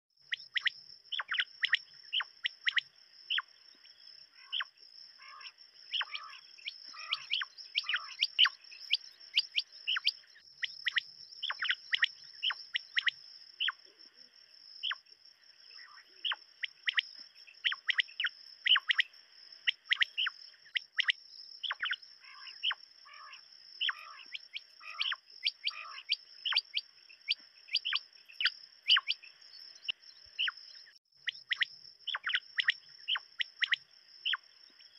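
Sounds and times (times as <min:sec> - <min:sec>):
quail chirping: 0:00.3 - 0:03.5, 0:04.4 - 0:13.9, 0:15.7 - 0:30.6, 0:31.2 - 0:34.4.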